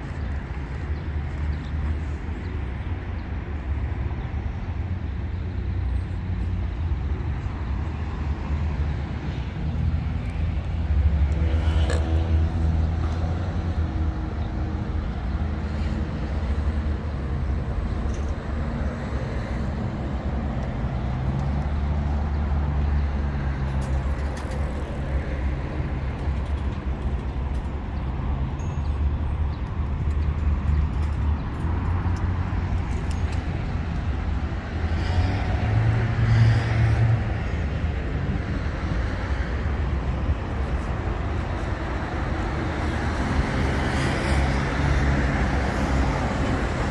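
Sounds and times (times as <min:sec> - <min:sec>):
road traffic rumble: 0:00.0 - 0:46.9.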